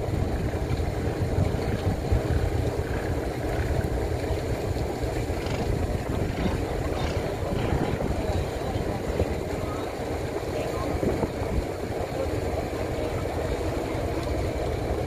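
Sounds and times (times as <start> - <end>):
boat diesel engine rumbling: 0.0 - 15.0
wind buffeting microphone: 0.0 - 15.0.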